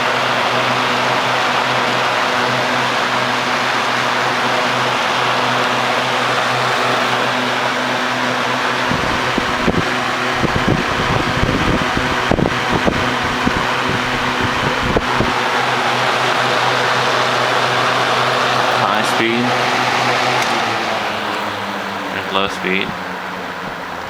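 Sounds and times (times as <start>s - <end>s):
box fan running: 0.0s - 24.0s.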